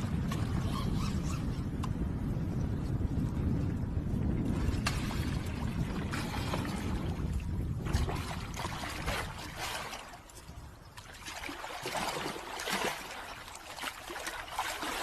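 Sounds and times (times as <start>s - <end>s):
water splashing and trickling: 2.8s - 15.0s.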